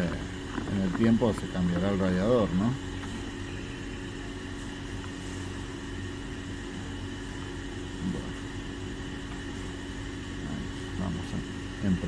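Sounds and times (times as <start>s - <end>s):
machine hum with fixed tones: 0.0s - 12.0s.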